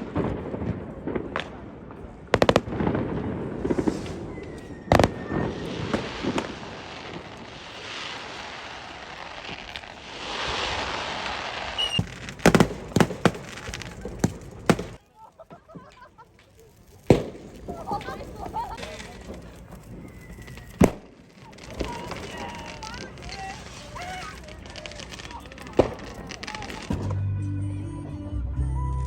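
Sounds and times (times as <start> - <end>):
firework bangs: 0.0 - 27.2
fizzing firework crackle: 0.0 - 27.2.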